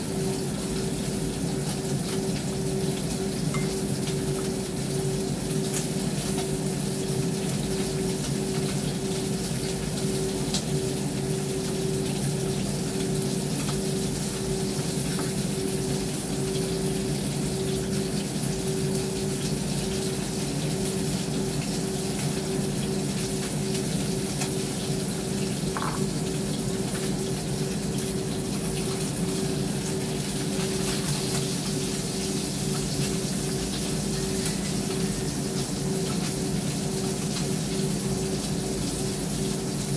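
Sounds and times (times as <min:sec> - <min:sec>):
extractor fan running: 0:00.0 - 0:39.9.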